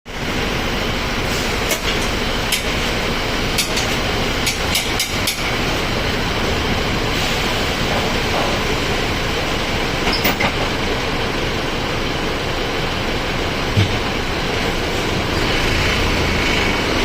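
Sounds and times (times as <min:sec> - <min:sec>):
bus engine and road rumble: 0:00.1 - 0:17.0.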